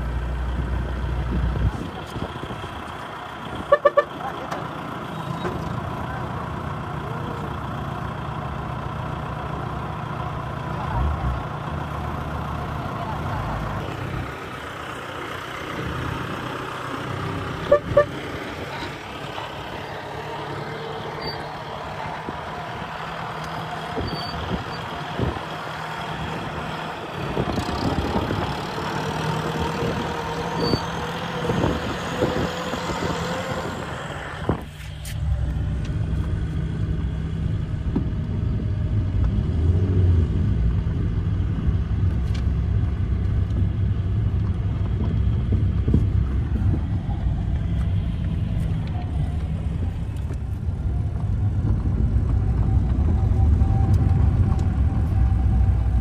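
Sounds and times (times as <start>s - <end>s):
car driving on dirt track: 0.0s - 56.0s
tractor engine running: 0.0s - 56.0s.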